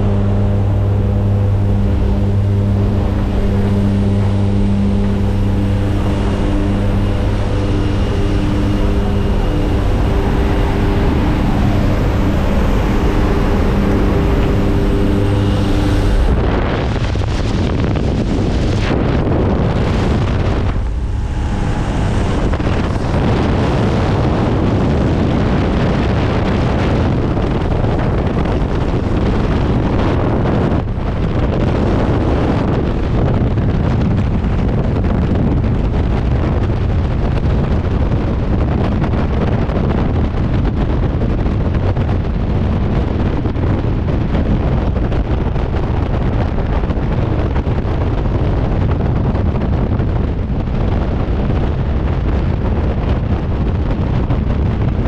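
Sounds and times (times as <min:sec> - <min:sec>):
plane engines droning: 0:00.0 - 0:55.0
wind rushing over microphone: 0:00.0 - 0:55.0.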